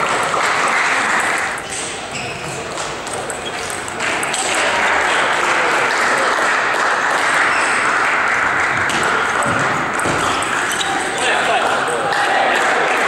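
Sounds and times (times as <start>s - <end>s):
spectators applauding: 0.0s - 1.6s, 4.0s - 13.0s.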